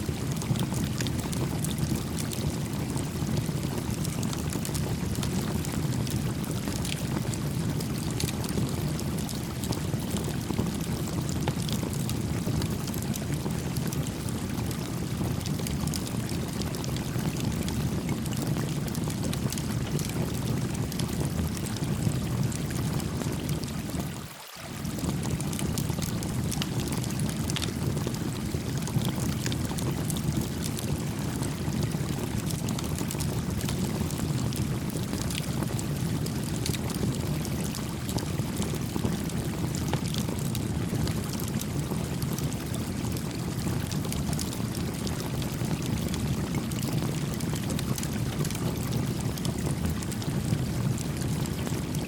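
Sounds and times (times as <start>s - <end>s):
campfire crackling and popping: 0.1s - 24.0s, 24.8s - 52.0s.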